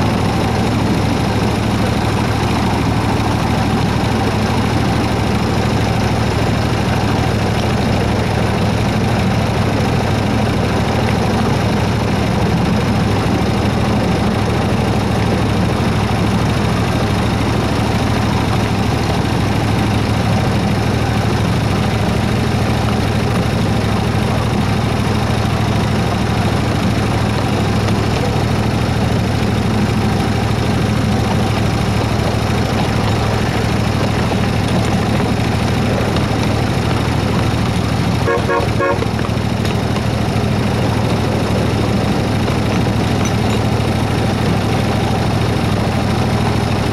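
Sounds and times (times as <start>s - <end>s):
miniature locomotive engine humming: 0.0s - 46.9s.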